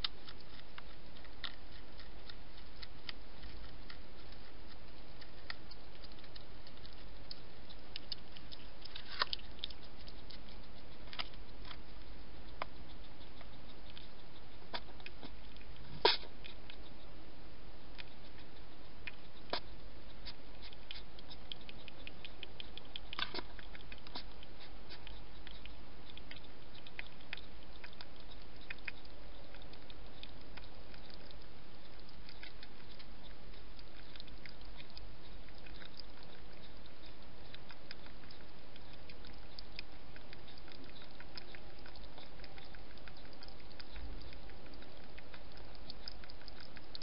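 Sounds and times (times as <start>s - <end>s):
hedgehog feeding clicks and smacks: 0.0s - 47.0s
low hum and hiss: 0.0s - 47.0s.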